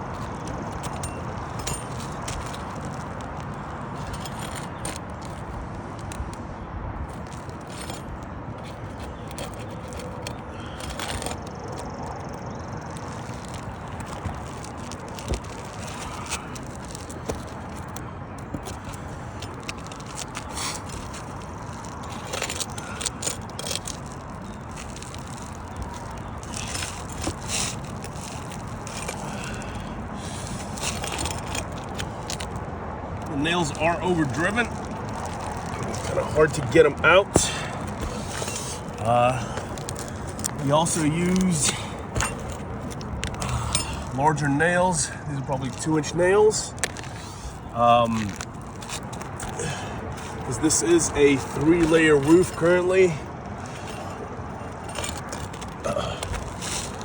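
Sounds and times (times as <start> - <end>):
shingles scraping: 0.0 - 57.0.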